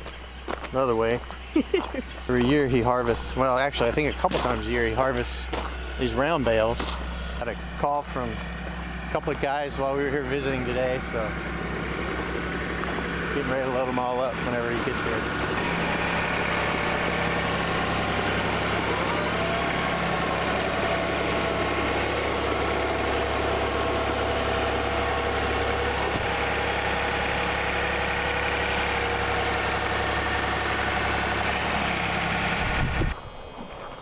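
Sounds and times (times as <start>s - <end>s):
tractor engine running: 0.0s - 33.6s.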